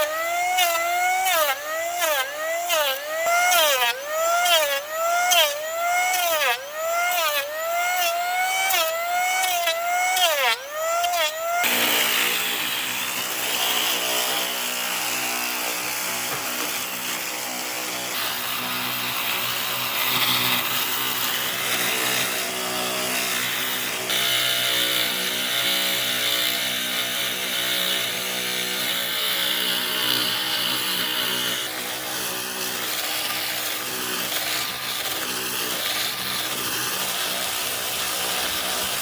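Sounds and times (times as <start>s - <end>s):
power tool whining and hissing: 0.0s - 39.0s.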